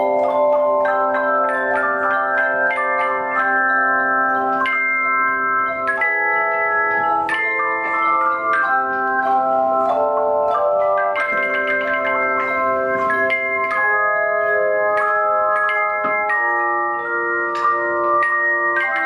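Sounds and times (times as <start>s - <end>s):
handchime ensemble playing chords: 0.0s - 19.0s.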